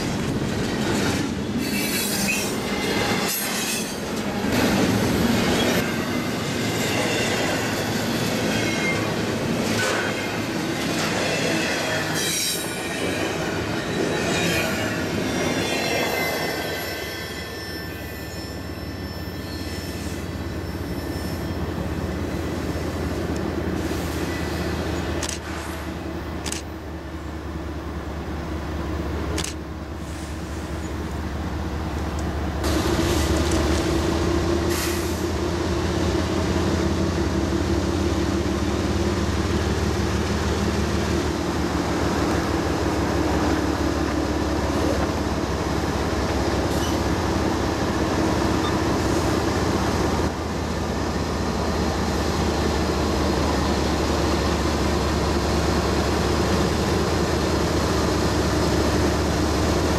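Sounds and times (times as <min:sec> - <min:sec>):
diesel locomotives passing: 0:00.0 - 0:59.9
locomotive engines rumbling: 0:00.0 - 0:59.9.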